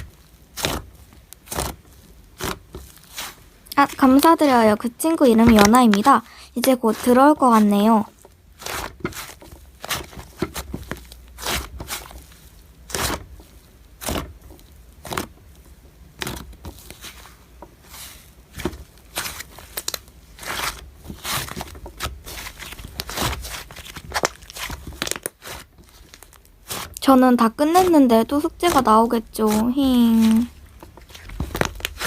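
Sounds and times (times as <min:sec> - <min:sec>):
slime squeezed and stretched: 0:00.0 - 0:32.0.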